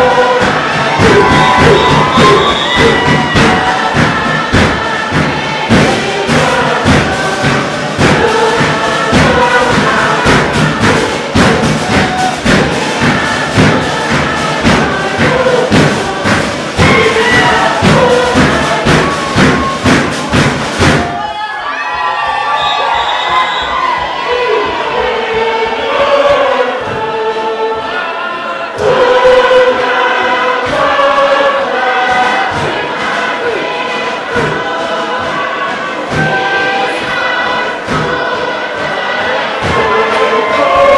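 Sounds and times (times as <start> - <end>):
group singing in chorus: 0.0 - 21.3, 22.2 - 40.9
hand-beaten percussion: 0.0 - 21.3, 28.8 - 40.9.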